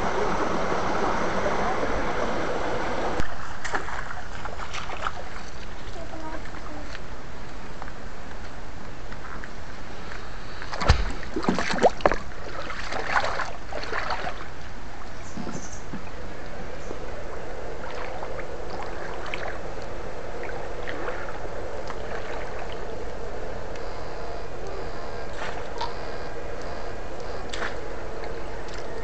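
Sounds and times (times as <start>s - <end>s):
faint steady hum: 0.0s - 29.0s
steady background hiss: 0.0s - 29.0s
water splashing and sloshing: 3.2s - 29.0s.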